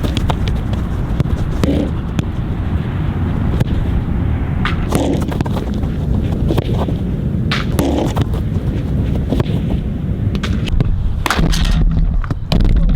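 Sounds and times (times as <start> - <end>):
ball being kicked: 0.0 - 3.8, 4.6 - 11.8
low rumble: 0.0 - 12.6.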